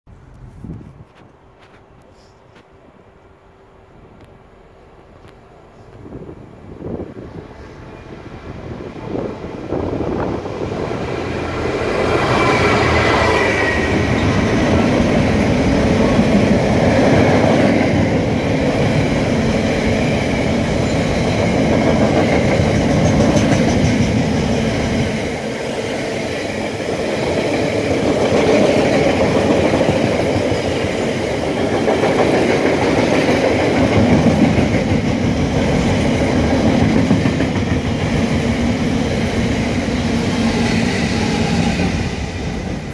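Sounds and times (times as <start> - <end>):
diesel locomotive engine passing: 2.8 - 42.9.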